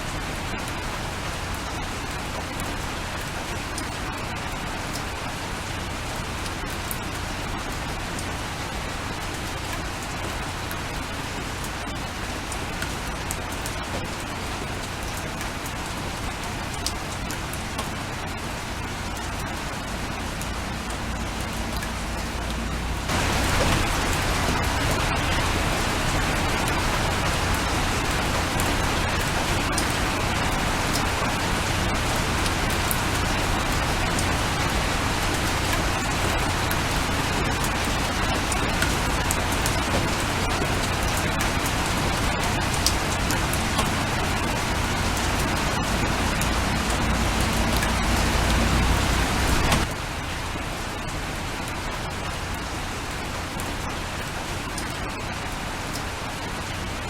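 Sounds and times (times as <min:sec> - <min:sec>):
steady rain falling: 0:00.0 - 0:57.0
raindrops ticking: 0:00.1 - 0:57.0.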